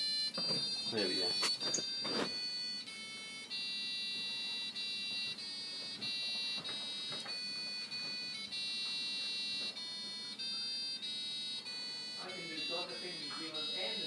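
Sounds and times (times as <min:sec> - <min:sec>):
electronic beeper playing a tune: 0:00.1 - 0:14.0.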